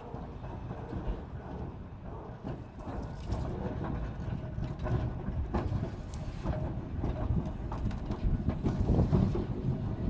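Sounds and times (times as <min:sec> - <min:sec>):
tram wheels rumbling: 0:00.0 - 0:10.0
wheels clicking over rails: 0:00.0 - 0:10.0.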